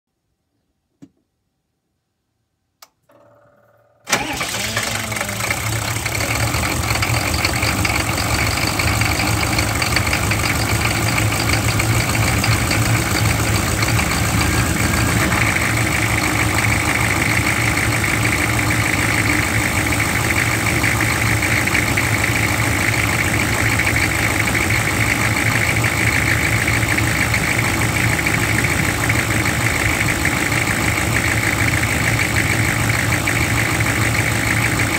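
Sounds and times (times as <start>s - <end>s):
diesel engine starting and idling: 4.0s - 34.9s.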